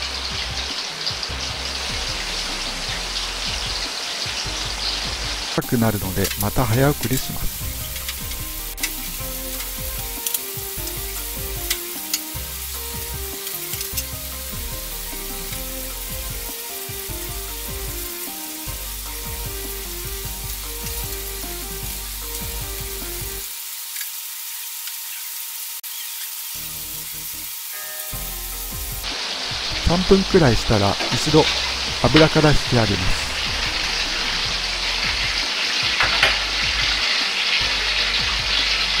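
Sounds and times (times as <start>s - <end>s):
meat sizzling in oil: 0.0s - 39.0s.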